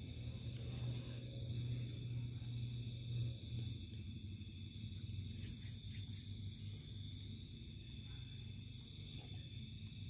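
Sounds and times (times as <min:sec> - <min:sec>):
low steady hum: 0:00.0 - 0:10.0
night insects trilling: 0:00.0 - 0:10.0.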